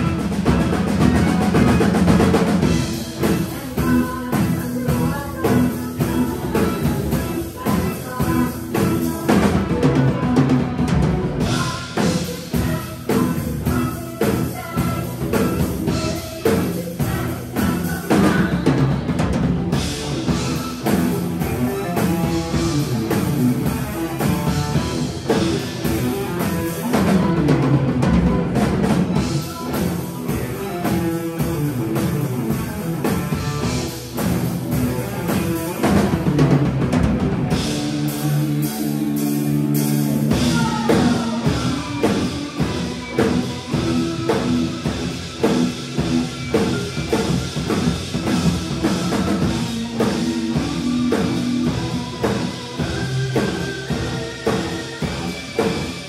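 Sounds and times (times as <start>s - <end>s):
rock band playing instrumental: 0.0s - 56.0s.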